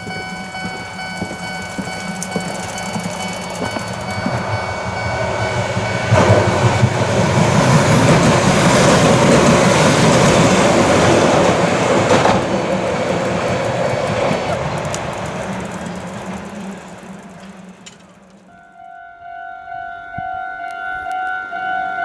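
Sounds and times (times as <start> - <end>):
train wheel and rail noise: 0.0 - 18.9
crossing warning bell ringing: 0.0 - 20.0.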